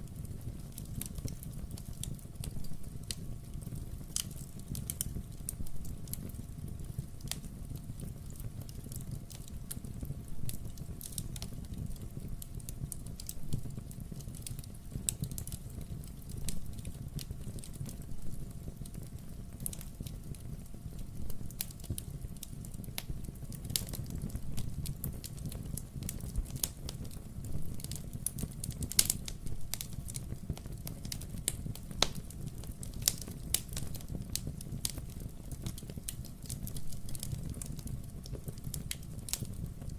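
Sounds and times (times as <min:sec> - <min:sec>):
flames rumbling: 0:00.0 - 0:39.9
logs crackling and popping: 0:00.1 - 0:39.9.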